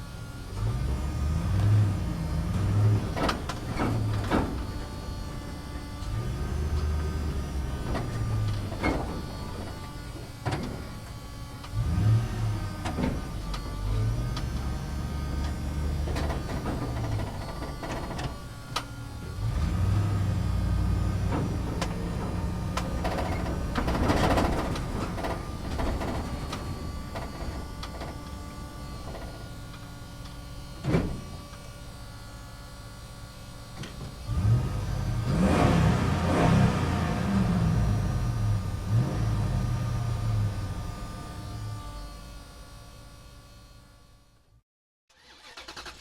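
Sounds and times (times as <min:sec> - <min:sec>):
small electric motors whining: 0:00.0 - 0:44.0.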